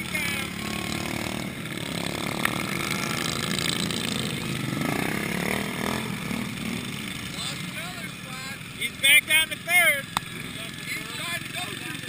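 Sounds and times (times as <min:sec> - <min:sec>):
lawn tractor engines passing: 0:00.0 - 0:12.0.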